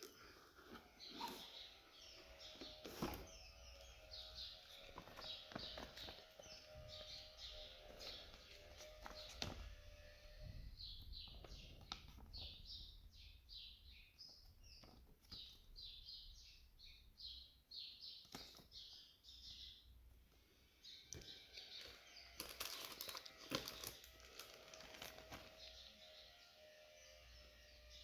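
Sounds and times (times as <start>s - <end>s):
faint bird chirping: 0.0s - 24.3s.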